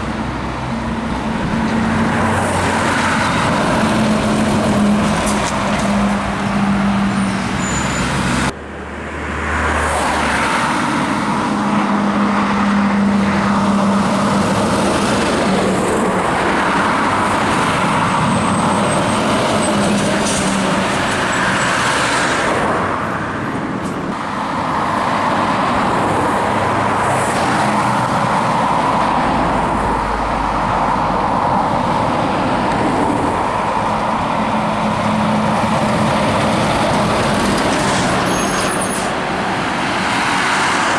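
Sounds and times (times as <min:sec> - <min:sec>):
road noise: 0:00.0 - 0:40.9
truck diesel engines running: 0:00.0 - 0:40.9.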